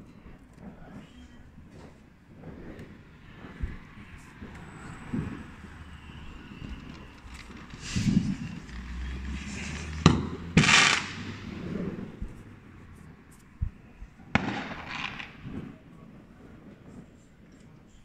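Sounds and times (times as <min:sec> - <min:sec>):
firework crackling: 0:00.0 - 0:18.0
firework bangs: 0:00.7 - 0:17.2.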